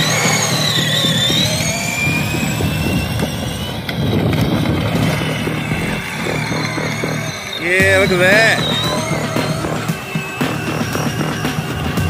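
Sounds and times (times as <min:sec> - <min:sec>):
toy motor whining: 0:00.0 - 0:12.0
steady low hum: 0:00.1 - 0:12.0.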